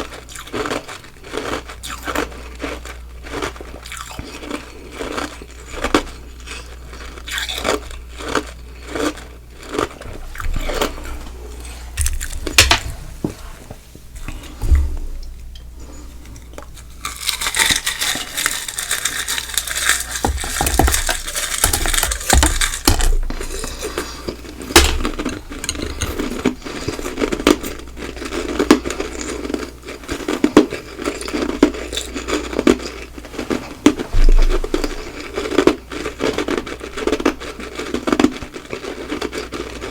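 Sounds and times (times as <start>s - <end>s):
ice crunching and chewing: 0.0s - 12.8s, 15.2s - 39.9s.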